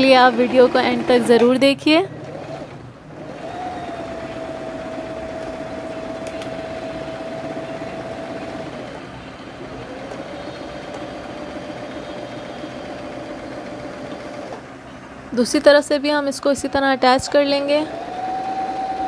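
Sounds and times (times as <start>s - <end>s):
sewing machine running: 0.0s - 19.0s.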